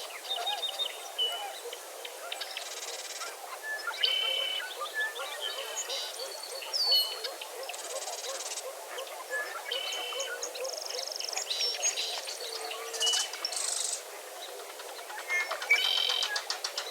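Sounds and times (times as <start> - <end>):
birds calling and singing: 0.0 - 16.9.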